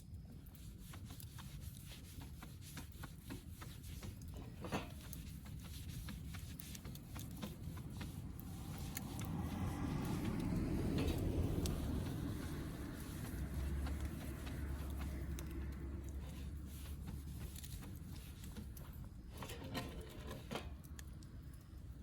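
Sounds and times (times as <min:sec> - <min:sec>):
wood fire crackling: 0:00.3 - 0:22.0.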